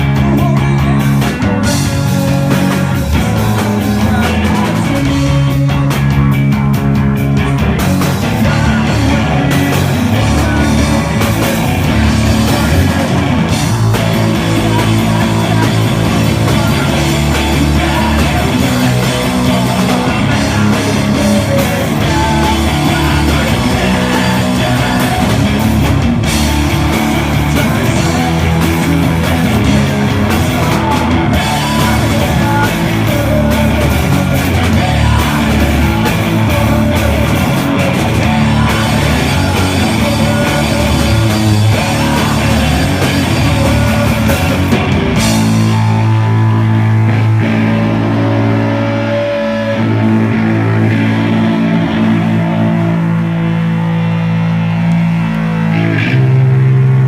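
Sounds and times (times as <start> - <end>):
punk rock band playing live: 0.0 - 57.0.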